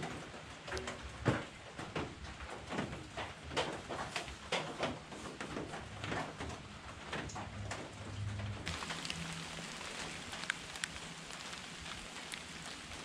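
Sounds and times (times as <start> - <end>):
rain on plastic roof panels: 0.0 - 13.0.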